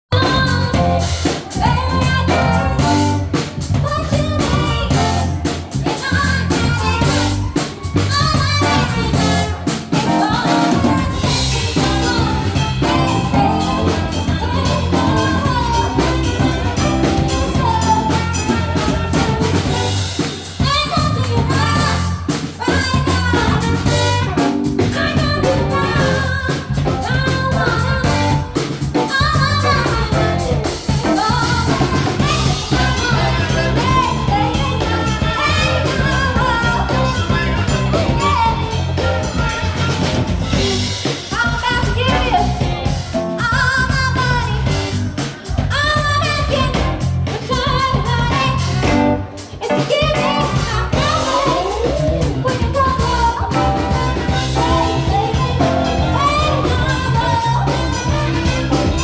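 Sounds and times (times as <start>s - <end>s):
live soul band playing: 0.1s - 59.0s
person singing: 0.1s - 59.0s.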